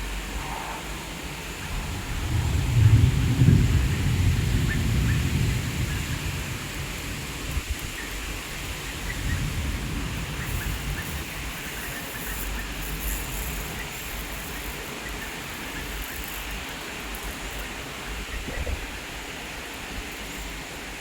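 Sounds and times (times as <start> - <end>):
rain hissing: 0.0 - 21.0
wind rumble on microphone: 0.0 - 21.0.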